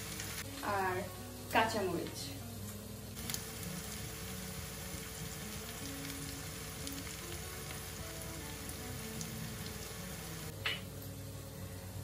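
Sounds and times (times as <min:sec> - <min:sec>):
food sizzling in a wok: 0:00.0 - 0:10.6.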